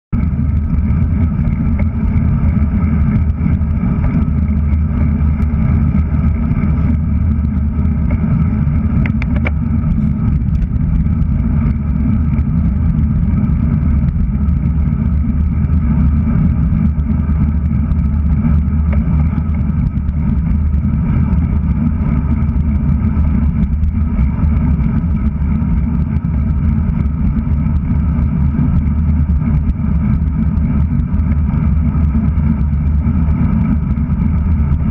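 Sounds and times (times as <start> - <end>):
tyre road noise rumble: 0.1 - 34.9
wind buffeting camera: 0.2 - 34.9.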